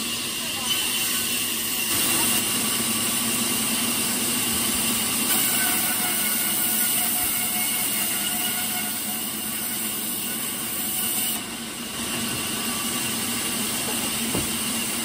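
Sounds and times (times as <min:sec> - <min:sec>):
band saw cutting timber: 0:00.0 - 0:15.0.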